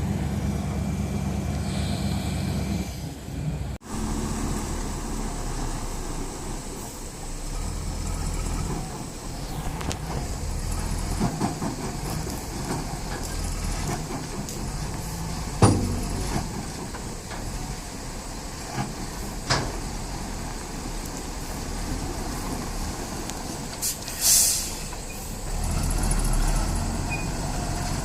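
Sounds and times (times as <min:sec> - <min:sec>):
heavy machinery engine rumbling: 0:00.0 - 0:28.0.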